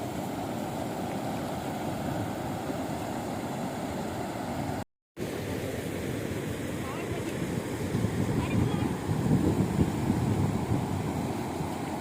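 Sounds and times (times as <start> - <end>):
rainwater runoff rushing: 0.0 - 12.0.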